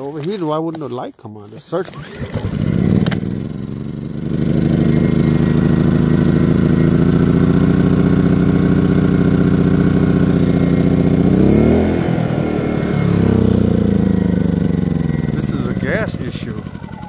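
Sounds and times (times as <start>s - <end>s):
generator engine starting up: 1.8s - 17.0s.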